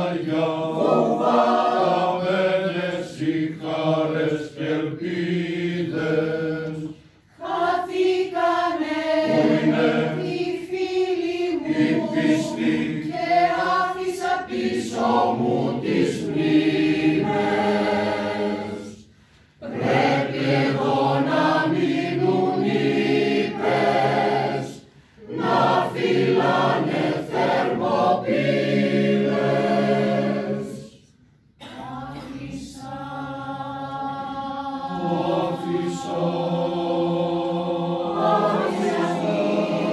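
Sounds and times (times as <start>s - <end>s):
mixed choir singing unaccompanied: 0.0s - 39.9s.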